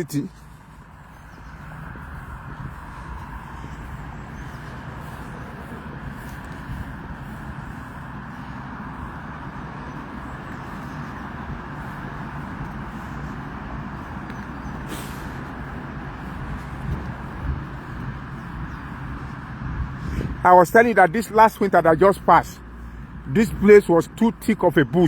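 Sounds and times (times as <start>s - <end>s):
road traffic hum: 0.0s - 25.0s.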